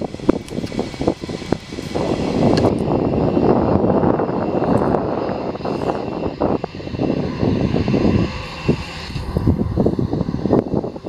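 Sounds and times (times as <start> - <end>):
jet engines rumbling: 0.0 - 11.0
thin high whine: 0.0 - 11.0.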